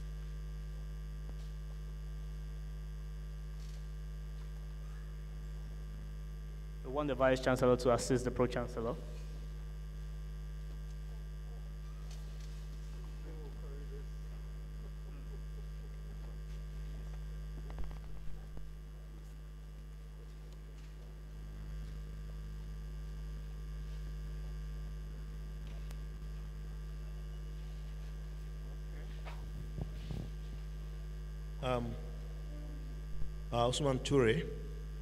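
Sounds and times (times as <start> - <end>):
electrical mains hum: 0.0 - 35.0.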